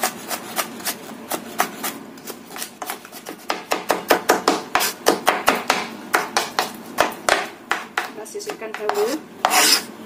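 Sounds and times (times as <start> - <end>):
knife chopping on wooden board: 0.0 - 9.9.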